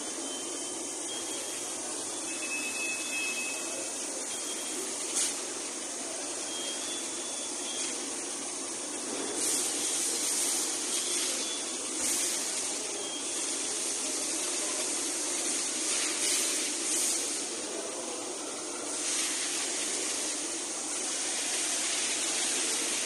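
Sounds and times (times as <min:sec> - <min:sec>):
industrial machinery hissing: 0:00.0 - 0:23.0.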